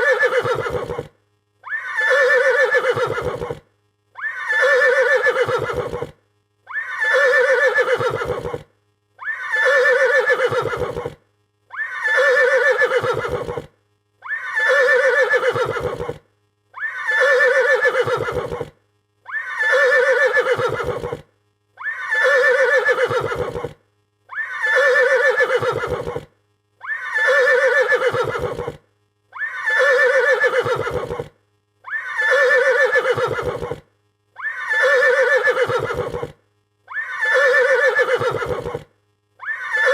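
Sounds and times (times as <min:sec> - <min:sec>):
horse neighing: 0:00.0 - 0:03.6, 0:04.2 - 0:06.1, 0:06.7 - 0:08.6, 0:09.2 - 0:16.2, 0:16.8 - 0:18.7, 0:19.3 - 0:21.2, 0:21.8 - 0:28.8, 0:29.4 - 0:31.3, 0:31.9 - 0:33.8, 0:34.4 - 0:39.9.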